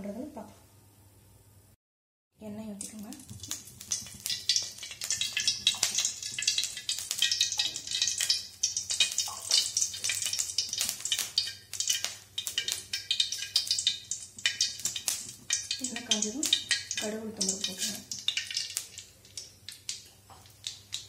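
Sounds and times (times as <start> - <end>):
oil crackling and sizzling: 2.6 - 21.0.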